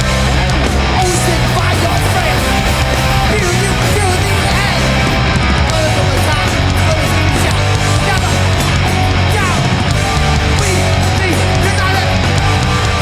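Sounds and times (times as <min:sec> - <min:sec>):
punk band playing live: 0:00.0 - 0:13.0.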